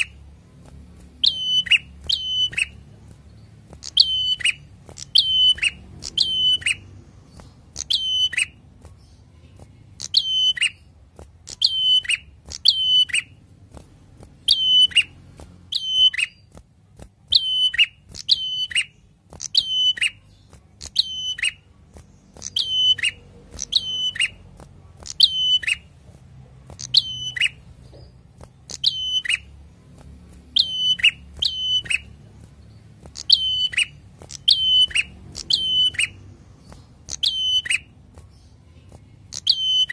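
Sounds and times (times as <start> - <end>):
bird singing sharp notes: 1.2 - 10.9, 11.5 - 13.4, 14.4 - 16.5, 17.3 - 25.9, 26.8 - 29.6, 30.5 - 39.9.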